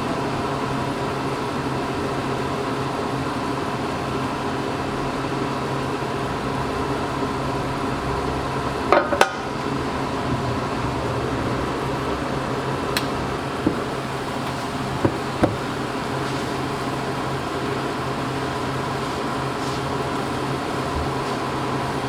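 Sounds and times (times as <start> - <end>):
kitchen machinery humming: 3.5 - 22.0.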